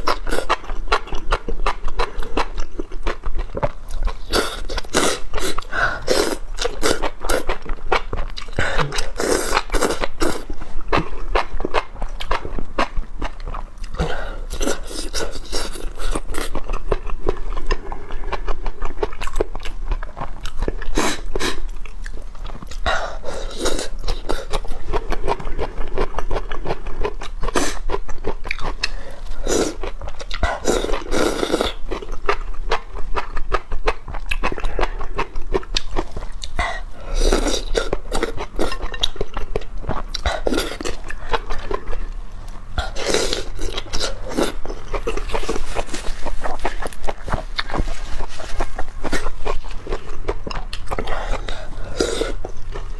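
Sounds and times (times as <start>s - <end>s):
wet chewing and mouth clicks: 0.0s - 52.9s.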